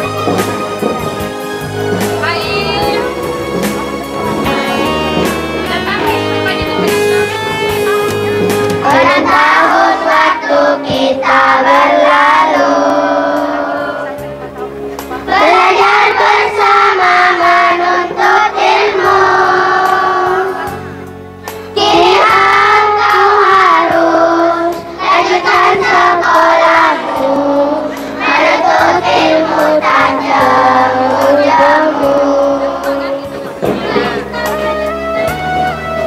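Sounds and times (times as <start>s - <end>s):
children's choir singing: 0.0s - 6.1s, 7.7s - 21.1s, 21.7s - 34.8s.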